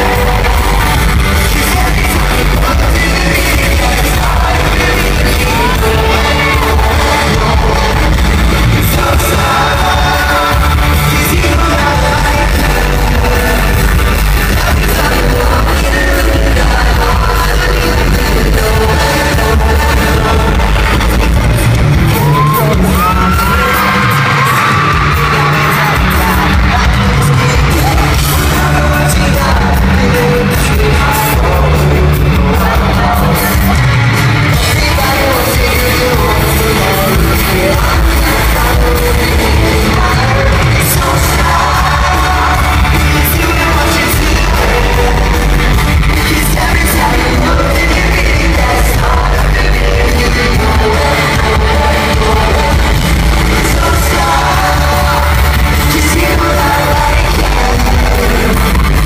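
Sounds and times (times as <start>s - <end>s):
crowd screaming: 0.0s - 59.0s
rock band playing live: 0.0s - 59.0s.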